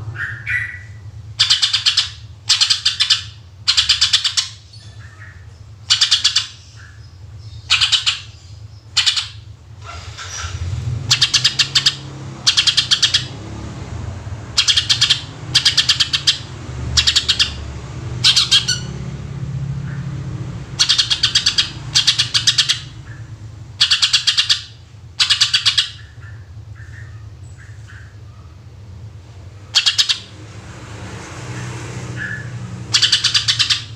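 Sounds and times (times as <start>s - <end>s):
bird singing harsh trilled bursts: 0.1s - 28.9s, 29.6s - 30.5s, 32.0s - 33.9s.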